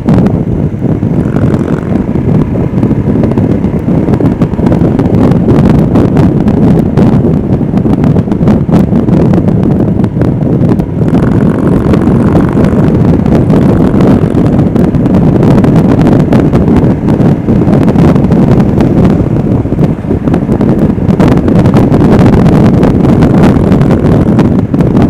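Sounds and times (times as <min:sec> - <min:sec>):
motorcycle engine: 0:00.0 - 0:25.0
road noise: 0:00.0 - 0:25.0
wind noise on microphone: 0:00.0 - 0:25.0.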